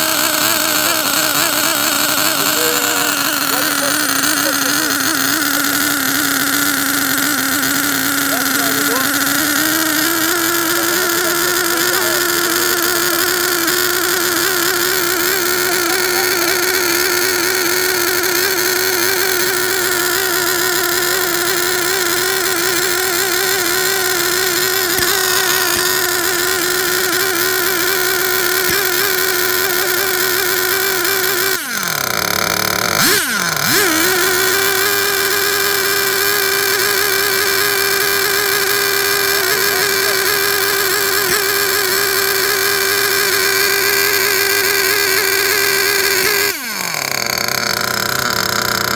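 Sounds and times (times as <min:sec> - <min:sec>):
model engine high-pitched scream: 0:00.0 - 0:48.9.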